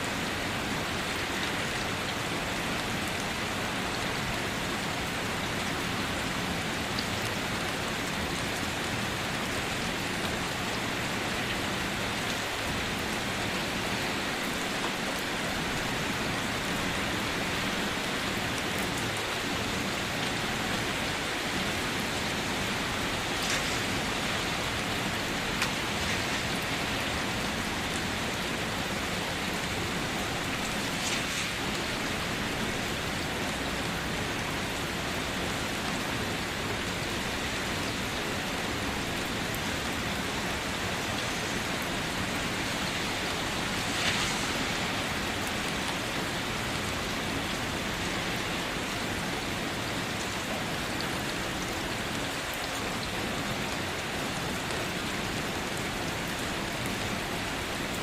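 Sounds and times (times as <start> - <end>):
hiss of falling rain: 0.0 - 58.0.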